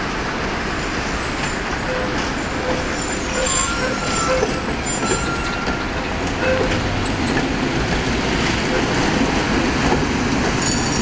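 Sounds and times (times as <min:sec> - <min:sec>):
tram wheels on rails: 0:00.0 - 0:11.0.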